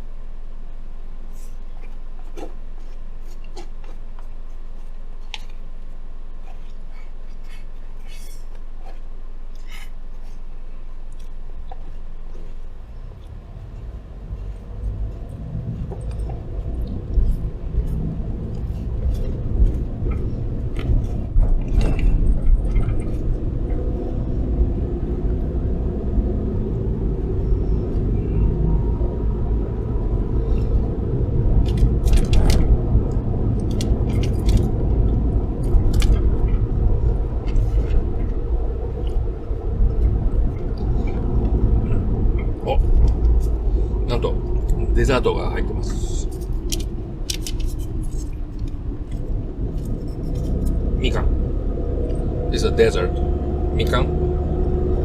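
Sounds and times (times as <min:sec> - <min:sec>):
car engine and road rumble: 0:00.0 - 0:55.0
steady low hum: 0:00.0 - 0:55.0
chewing and small clicks: 0:01.3 - 0:25.7, 0:31.4 - 0:43.7, 0:44.3 - 0:55.0.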